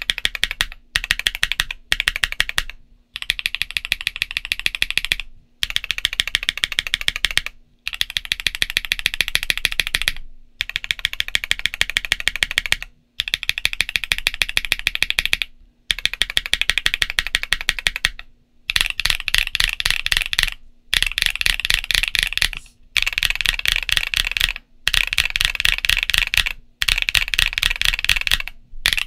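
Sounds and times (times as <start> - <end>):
fast typing on mechanical keyboard: 0.0 - 29.0.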